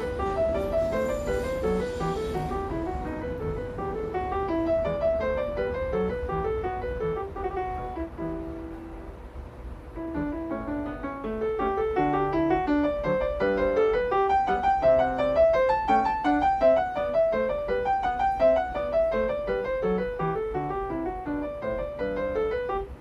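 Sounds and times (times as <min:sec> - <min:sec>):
fast piano music: 0:00.0 - 0:23.0.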